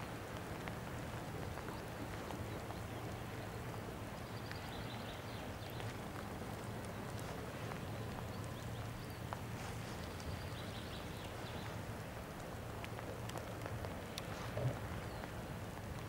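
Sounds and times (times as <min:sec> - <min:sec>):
raindrop ticks: 0:00.0 - 0:16.0
steady rain hiss: 0:00.0 - 0:16.0.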